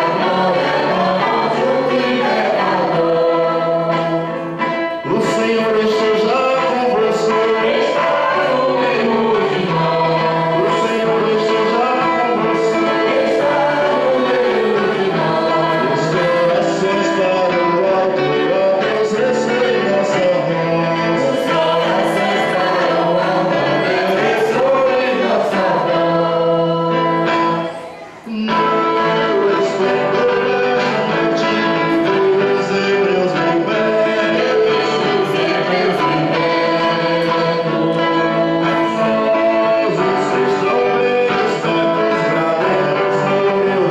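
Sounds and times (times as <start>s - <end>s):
group singing a hymn: 0.0s - 43.9s
instrumental accompaniment: 0.0s - 43.9s.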